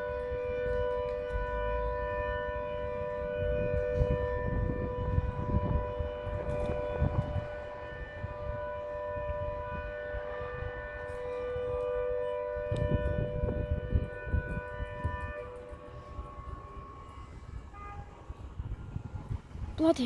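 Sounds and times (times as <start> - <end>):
wind buffeting microphone: 0.0 - 19.8.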